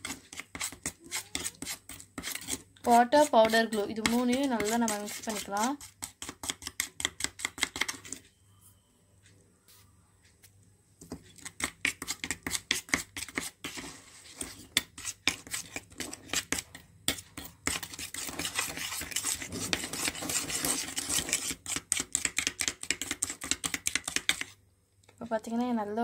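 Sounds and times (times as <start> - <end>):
spoon scraping steel bowl: 0.0 - 8.4, 11.4 - 24.6.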